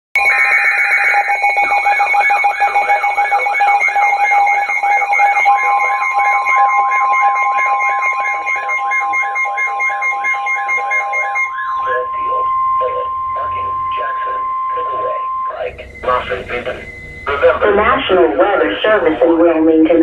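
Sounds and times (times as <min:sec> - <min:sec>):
screechy digital header: 0:00.2 - 0:19.4
warbling alert tone: 0:00.2 - 0:19.4
steady second tone: 0:01.1 - 0:20.0.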